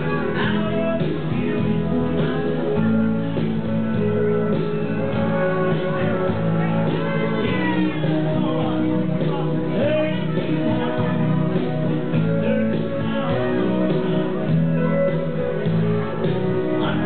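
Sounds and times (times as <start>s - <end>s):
guitar-backed music: 0.0s - 17.0s
person singing into a microphone: 0.0s - 17.0s.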